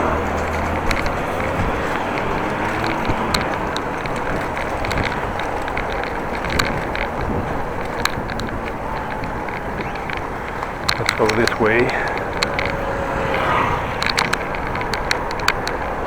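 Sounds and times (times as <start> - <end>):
bicycle tyre rumble: 0.0 - 16.0
light clicks and rattles: 0.0 - 16.0
wind noise on microphone: 0.0 - 16.0.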